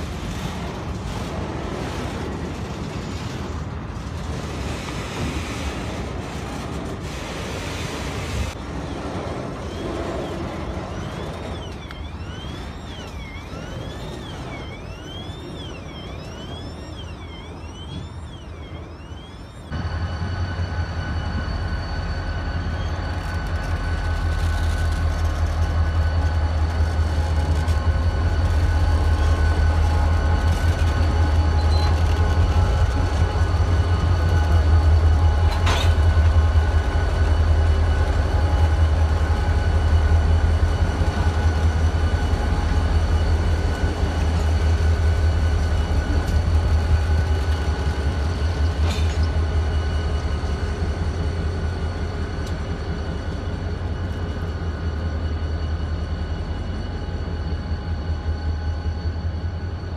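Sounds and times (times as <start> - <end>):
deep locomotive engine drone: 0.0 - 59.9.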